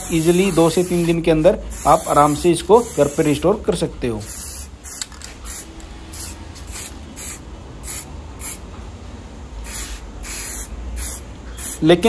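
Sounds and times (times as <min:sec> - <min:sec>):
aerosol spray can hissing: 0:00.0 - 0:03.4, 0:04.3 - 0:08.6, 0:09.6 - 0:11.8.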